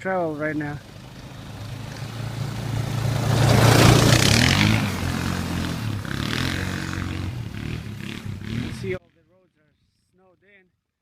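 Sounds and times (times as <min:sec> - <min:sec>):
quad engine driving past: 0:00.0 - 0:09.1.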